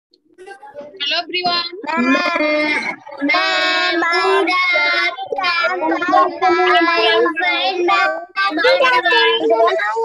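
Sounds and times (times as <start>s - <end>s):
children singing: 0.4s - 10.0s.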